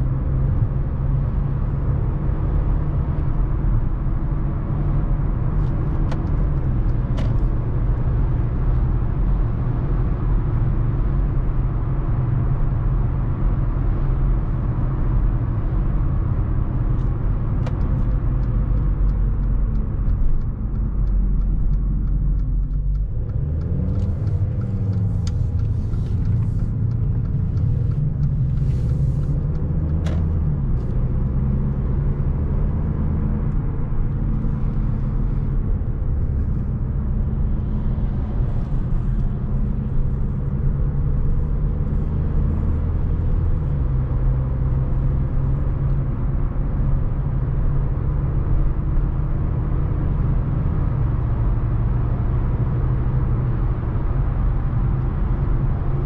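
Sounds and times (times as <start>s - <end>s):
car engine running: 0.0s - 50.1s
road rumble: 0.0s - 56.0s.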